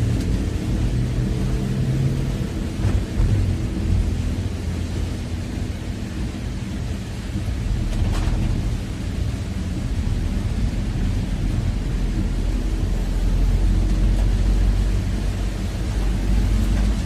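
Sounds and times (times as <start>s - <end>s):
rain hiss: 0.0s - 17.0s
road and engine rumble: 0.0s - 17.0s.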